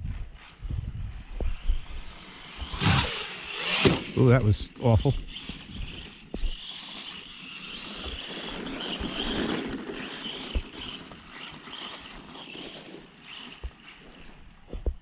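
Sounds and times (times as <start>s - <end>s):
toy truck electric motor whining: 0.4s - 4.1s, 5.0s - 14.7s.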